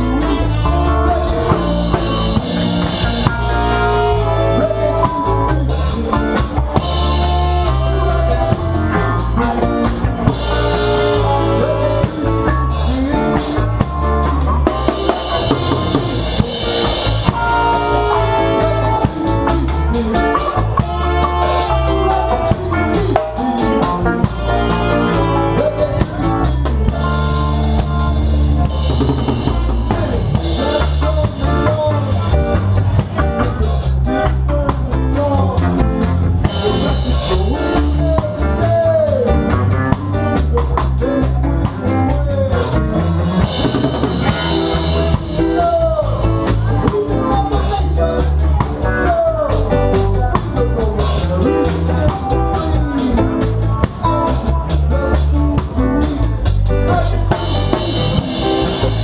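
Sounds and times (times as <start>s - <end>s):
guitar lead notes bending: 0.0s - 59.0s
live reggae band playing: 0.0s - 59.0s.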